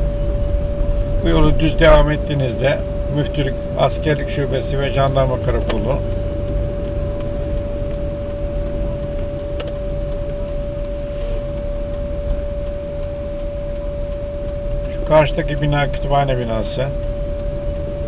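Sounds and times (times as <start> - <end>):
car engine and road rumble: 0.0 - 18.0
thin steady tone: 0.0 - 18.0.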